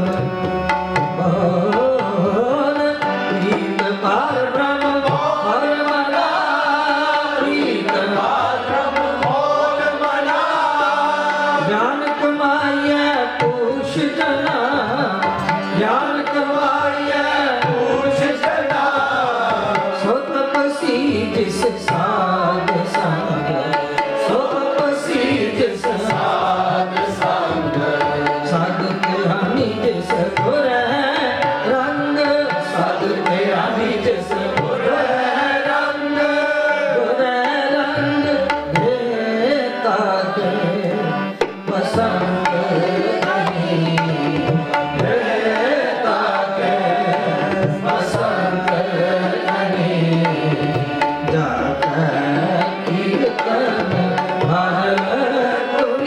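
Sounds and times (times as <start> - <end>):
devotional hymn singing: 0.0 - 56.0.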